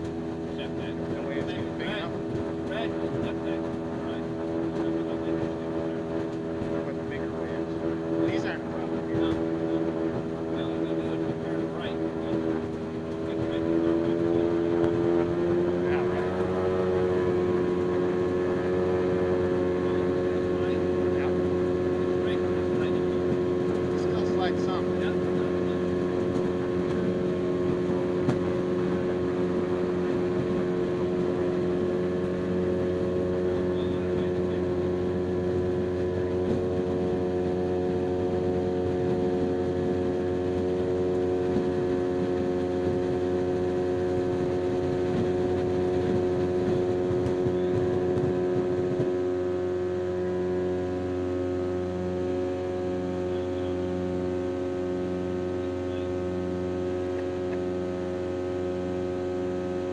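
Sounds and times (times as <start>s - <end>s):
aircraft engine and propeller: 0.0s - 59.9s
water rushing along hull: 0.0s - 59.9s.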